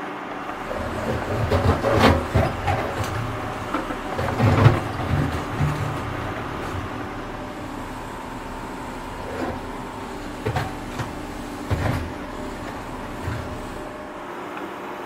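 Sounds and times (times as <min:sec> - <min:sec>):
tractor engine humming: 0:00.4 - 0:14.2
short clunks and thuds: 0:00.6 - 0:13.9.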